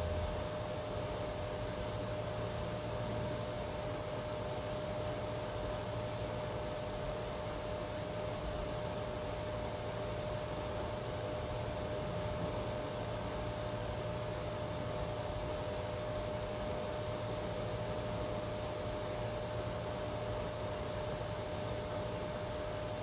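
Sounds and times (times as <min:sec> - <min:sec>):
constant mid-pitched hum: 0:00.0 - 0:23.0.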